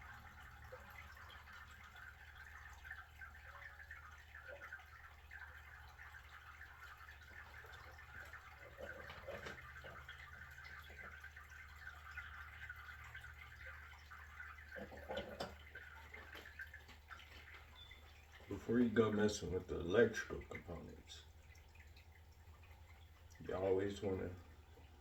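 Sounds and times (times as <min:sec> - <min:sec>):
water trickling from tank: 0:00.0 - 0:25.0.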